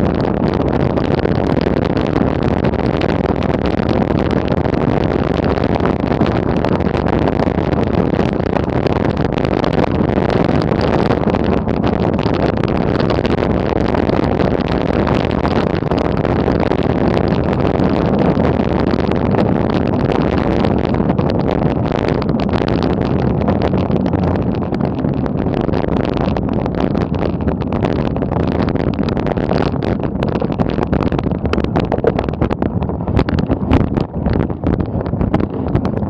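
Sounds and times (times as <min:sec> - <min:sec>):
bicycle tyres on gravel: 0:00.0 - 0:36.0
wind on camera microphone: 0:00.0 - 0:36.0.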